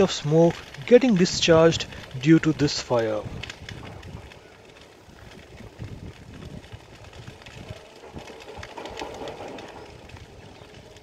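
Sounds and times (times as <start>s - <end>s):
crackles of burning sticks: 0.0s - 11.0s
low rumble of fire: 0.0s - 11.0s.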